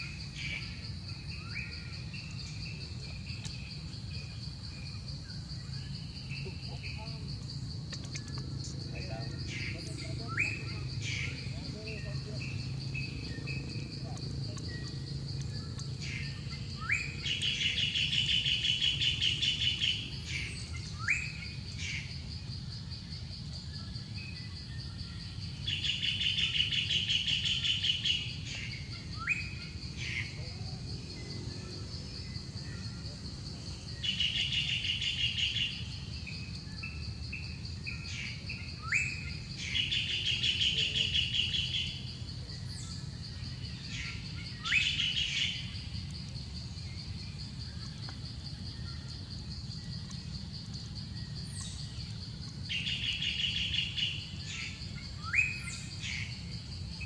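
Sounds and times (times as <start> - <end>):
birds calling with trills: 0.0 - 57.0
high insect drone: 0.0 - 57.0.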